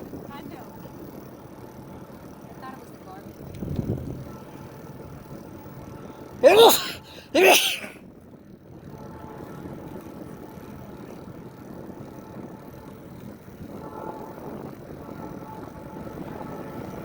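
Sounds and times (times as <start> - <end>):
bike tyres rolling on pavement: 0.0 - 6.3, 8.2 - 17.0.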